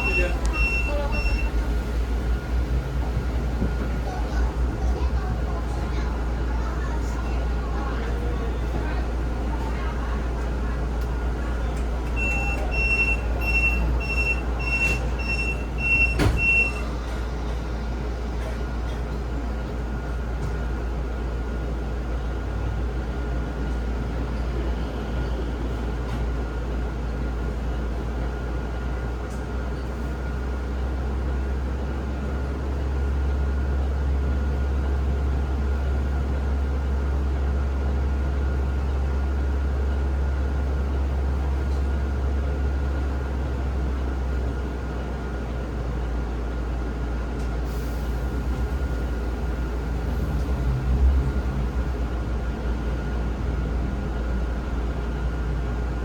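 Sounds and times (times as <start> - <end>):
bus drivetrain humming: 0.0 - 56.0.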